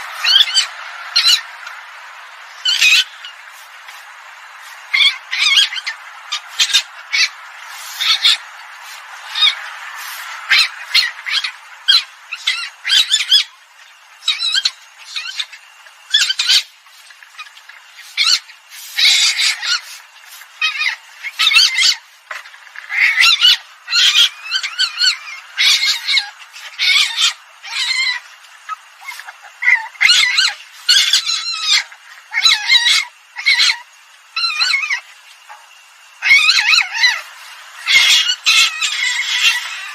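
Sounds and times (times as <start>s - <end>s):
civet high-pitched calls: 0.0s - 35.1s, 36.2s - 39.9s.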